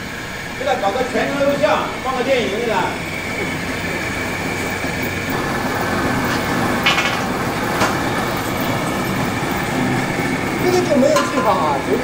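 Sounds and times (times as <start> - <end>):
steady machinery noise: 0.0 - 12.0.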